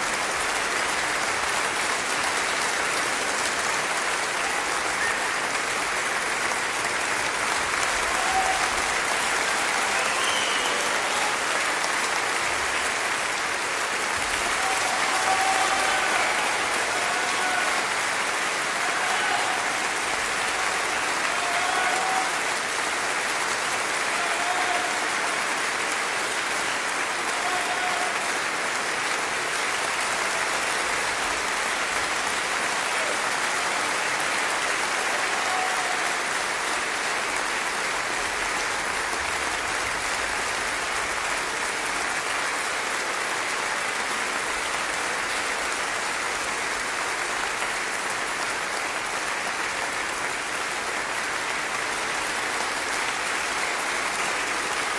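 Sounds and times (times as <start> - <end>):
audience applauding: 0.0 - 54.9.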